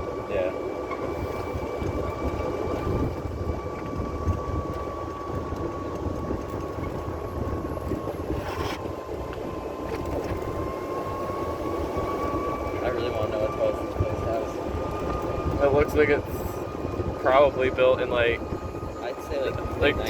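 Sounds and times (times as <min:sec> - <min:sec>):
golf cart high whine: 0:00.0 - 0:20.0
wind on microphone: 0:01.1 - 0:20.0.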